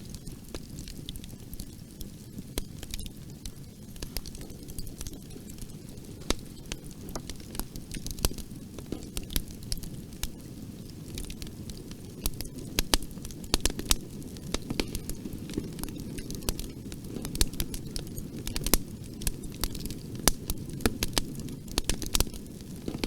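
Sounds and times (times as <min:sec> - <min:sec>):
burning wood crackling and popping: 0:00.0 - 0:23.0
low rumble of flames: 0:00.0 - 0:23.0.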